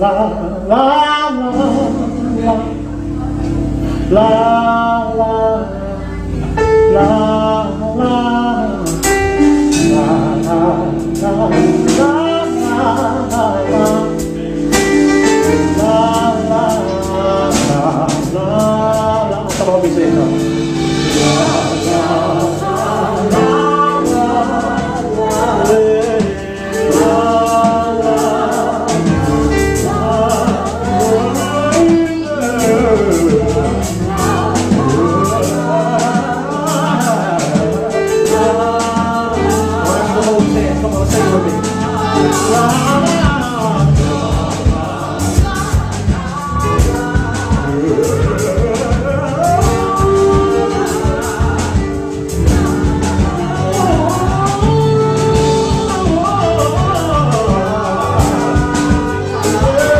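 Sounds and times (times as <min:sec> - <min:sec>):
keyboard chords: 0:00.0 - 0:59.9
man singing lead: 0:00.0 - 0:59.9
backing singers: 0:00.7 - 0:59.9
drums: 0:06.3 - 0:59.9.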